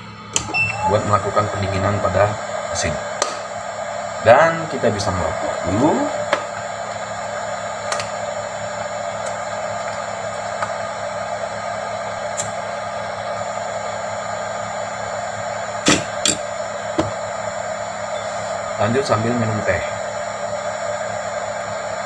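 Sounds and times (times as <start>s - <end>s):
electric blower fan running: 0.0s - 22.0s.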